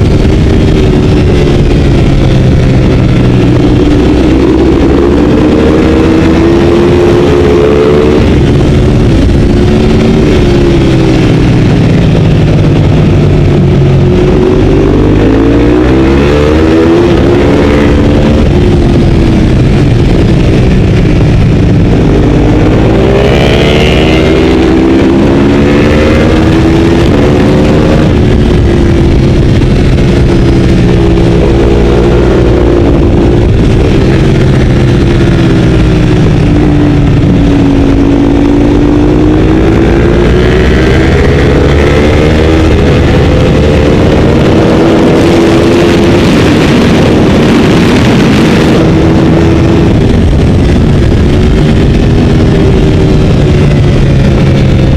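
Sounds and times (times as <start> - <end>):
motorcycle engine accelerating: 0.0 - 54.9
wind rushing: 0.0 - 54.9.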